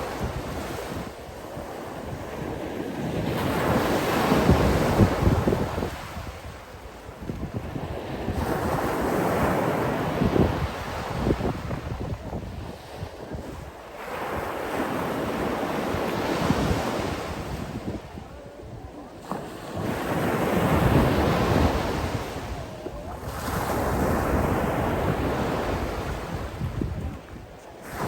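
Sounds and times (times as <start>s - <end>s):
sea waves rushing in: 0.0s - 28.0s.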